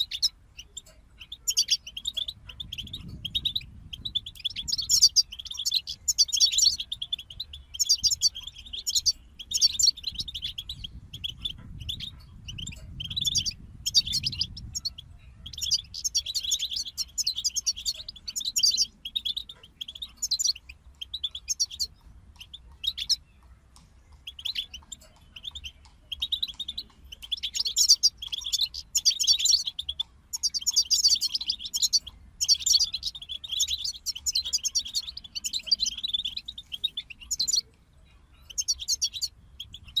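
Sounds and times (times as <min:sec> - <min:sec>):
finches singing: 0:00.0 - 0:40.0.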